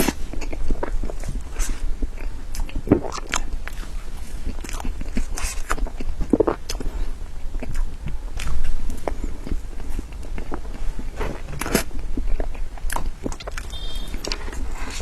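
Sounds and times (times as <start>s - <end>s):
low steady hum: 0.0s - 15.0s
wet chewing and mouth smacks: 0.0s - 15.0s.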